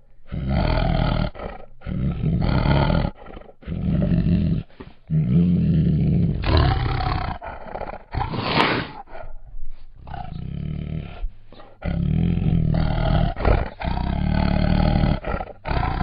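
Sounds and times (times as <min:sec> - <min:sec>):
tiger growling: 0:00.2 - 0:16.0.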